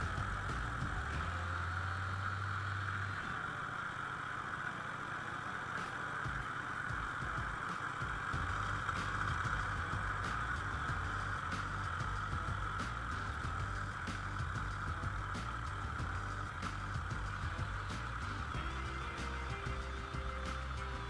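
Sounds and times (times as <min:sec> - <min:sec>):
motorcycle engine running: 0:00.0 - 0:21.0
steady rushing noise: 0:00.0 - 0:21.0.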